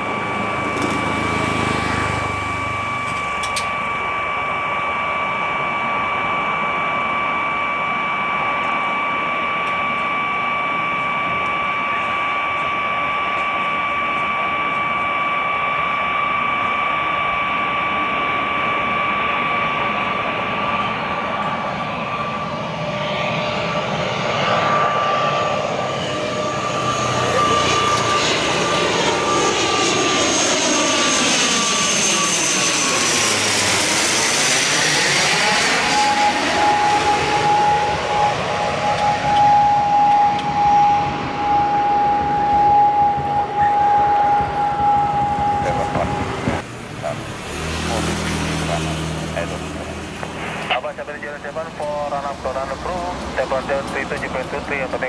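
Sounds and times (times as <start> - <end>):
propeller aircraft drone: 0.0 - 55.0.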